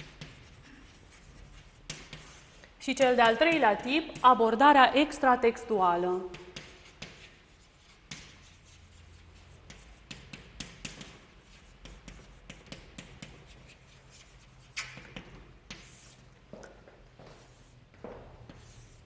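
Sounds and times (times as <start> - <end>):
chalk tapping and scratching on blackboard: 0.0 - 4.7, 6.2 - 19.0.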